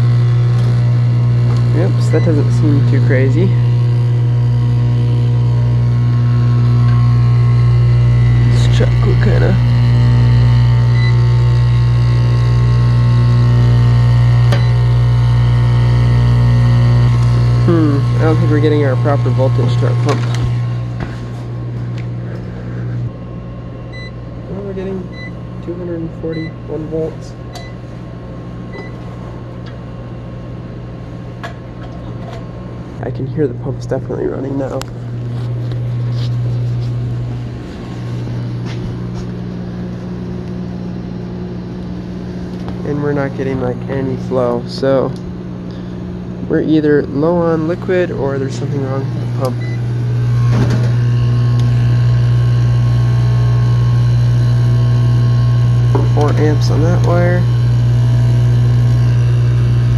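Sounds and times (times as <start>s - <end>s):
higher electric tone: 0.0s - 30.5s, 33.0s - 59.9s
heat pump humming: 0.0s - 59.9s.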